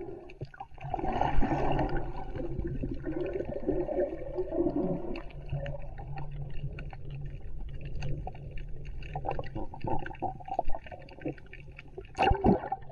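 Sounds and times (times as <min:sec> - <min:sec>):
underwater rumble of moving water: 0:00.0 - 0:12.9
water swishes: 0:00.0 - 0:12.9.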